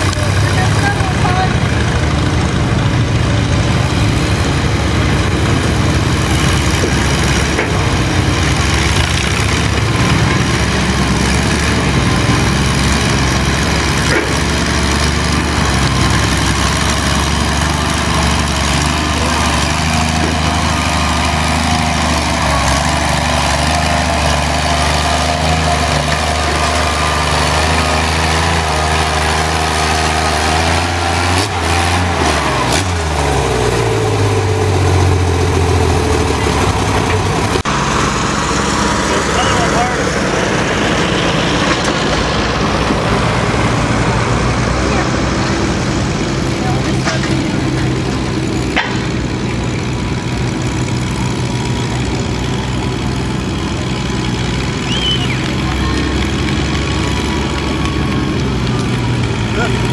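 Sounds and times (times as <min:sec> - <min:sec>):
tractor engine under heavy load: 0:00.0 - 0:59.9.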